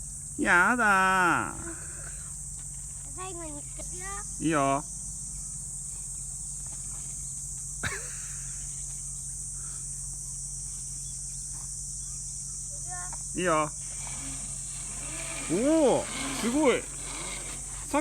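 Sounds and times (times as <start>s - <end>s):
insects shrilling: 0.0s - 18.0s.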